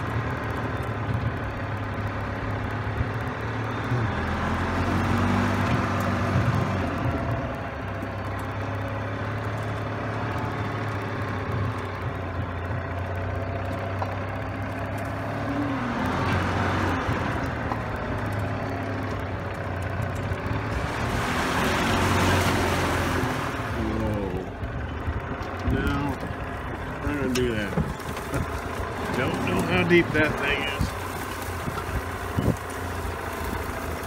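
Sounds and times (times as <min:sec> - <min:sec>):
golf cart motor humming: 0:00.0 - 0:34.0.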